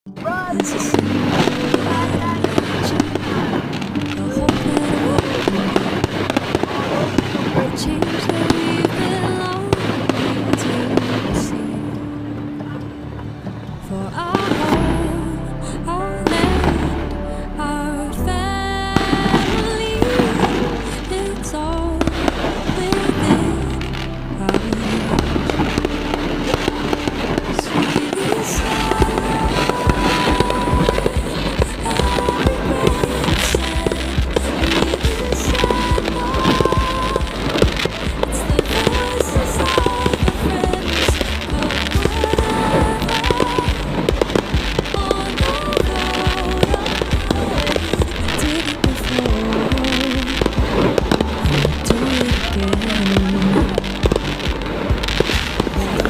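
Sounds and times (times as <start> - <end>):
music: 0.0 - 56.0
voices: 0.0 - 56.0
fireworks bangs and crackles: 0.2 - 11.8, 22.0 - 56.0.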